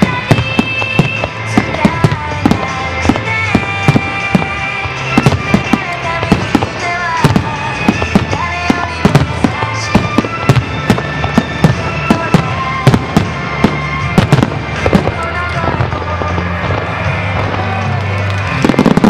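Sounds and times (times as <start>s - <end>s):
fireworks bursting: 0.0s - 19.0s
music playing: 0.0s - 19.0s.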